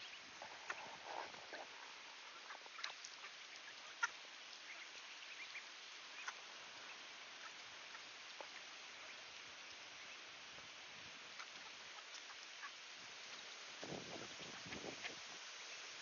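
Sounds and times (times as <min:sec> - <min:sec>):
ducks calling softly: 0:00.0 - 0:16.0
faint outdoor hiss: 0:00.0 - 0:16.0.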